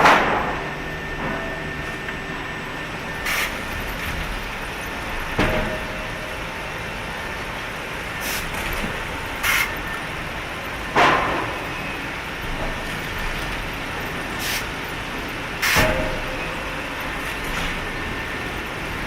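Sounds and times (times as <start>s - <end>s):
sawmill machinery running: 0.0s - 19.0s.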